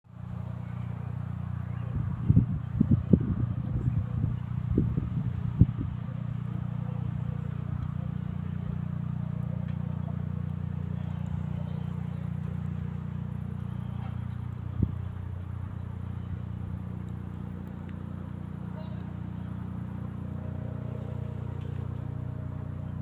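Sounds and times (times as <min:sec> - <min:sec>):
distant helicopter droning: 0:00.0 - 0:23.0.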